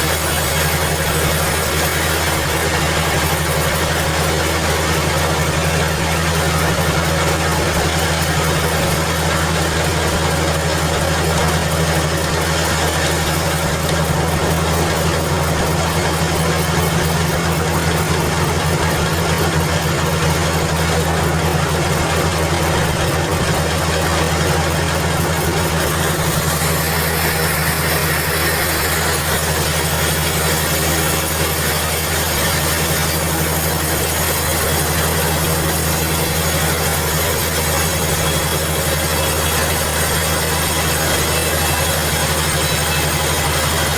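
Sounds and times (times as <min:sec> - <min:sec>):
band saw machinery humming: 0:00.0 - 0:43.9.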